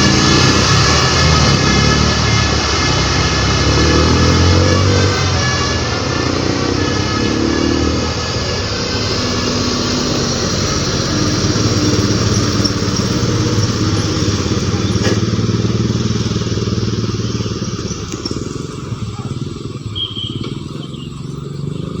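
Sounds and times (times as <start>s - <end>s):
passing traffic: 0.0s - 22.0s
vehicle engine running: 0.0s - 22.0s.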